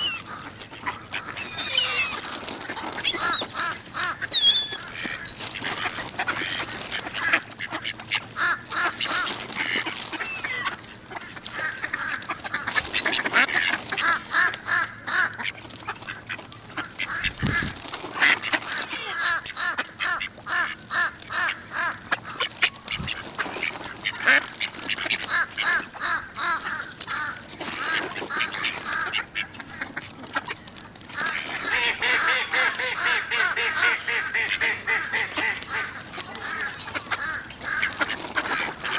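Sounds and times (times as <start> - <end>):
ducks quacking and chattering: 0.0 - 38.9.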